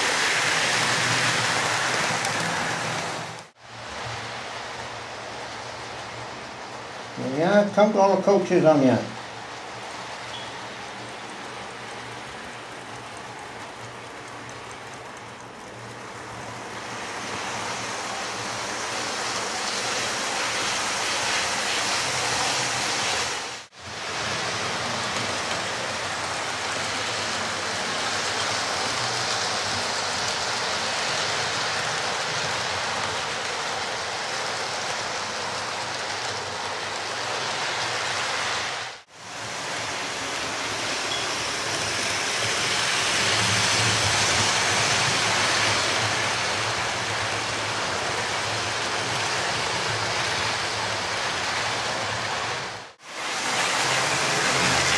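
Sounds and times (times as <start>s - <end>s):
model train wheels whirring: 0.0s - 54.9s.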